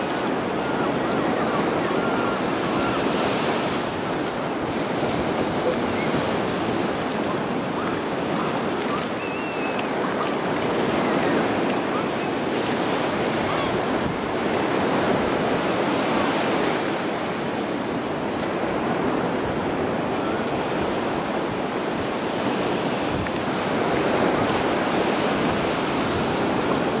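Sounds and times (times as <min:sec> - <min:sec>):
surf washing onto shore: 0:00.0 - 0:27.0
wind buffeting microphone: 0:00.0 - 0:27.0.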